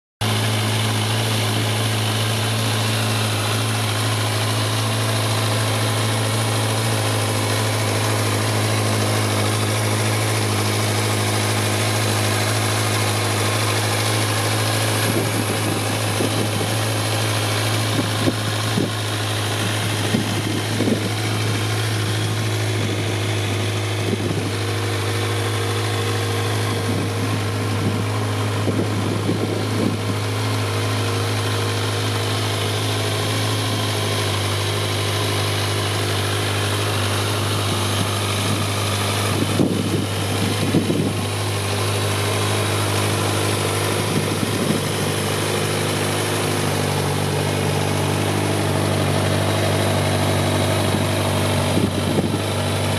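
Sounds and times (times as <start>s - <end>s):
motorcycle engine idling: 0.2s - 52.9s.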